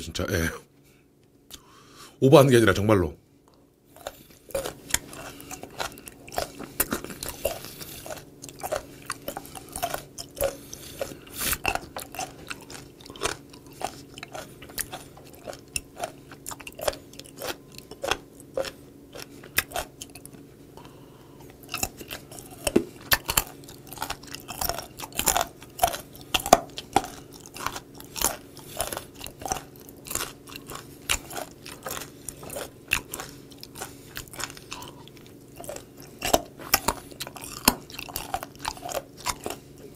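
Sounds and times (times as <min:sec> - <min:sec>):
chewing crunchy food: 0:03.4 - 0:39.9.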